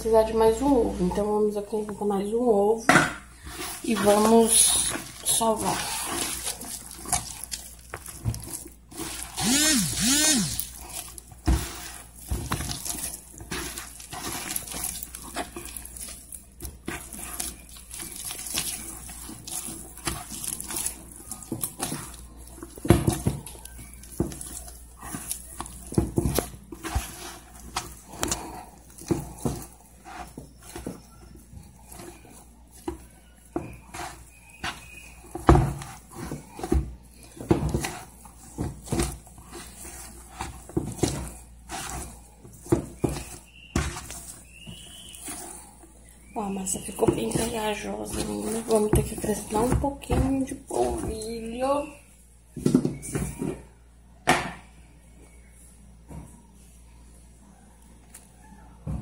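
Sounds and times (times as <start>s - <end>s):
hands kneading sticky dough: 0.0s - 59.0s.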